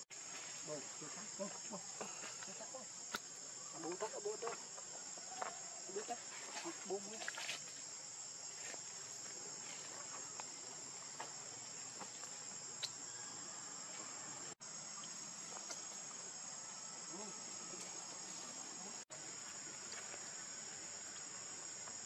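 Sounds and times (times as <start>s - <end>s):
insect chorus: 0.0s - 22.0s
faint ticks from ground: 0.1s - 22.0s.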